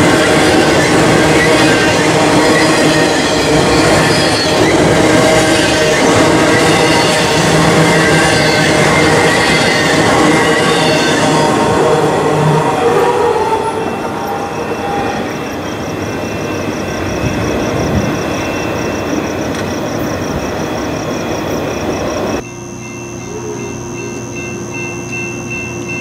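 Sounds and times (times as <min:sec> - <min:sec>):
train cars rumbling and rattling: 0:00.0 - 0:22.4
steady high tone: 0:00.0 - 0:26.0
train wheels squealing: 0:00.0 - 0:26.0.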